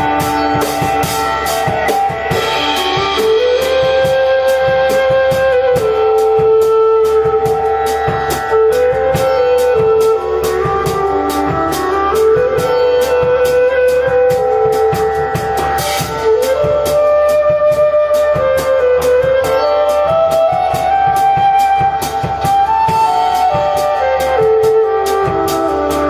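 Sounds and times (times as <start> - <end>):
drum kit cymbal beat: 0.0 - 26.0
flute long held notes: 0.0 - 26.0
plucked guitar: 0.0 - 26.0.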